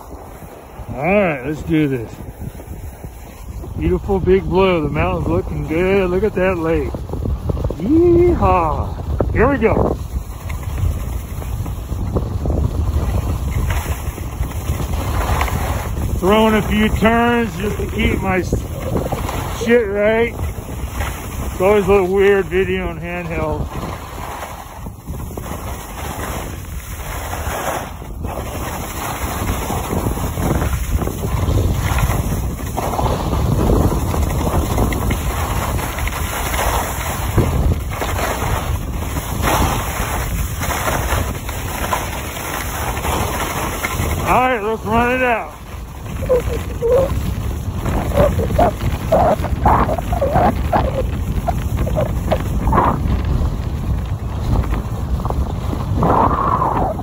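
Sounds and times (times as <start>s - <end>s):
skis scraping over snow: 0.0s - 57.0s
wind buffeting microphone: 0.0s - 57.0s.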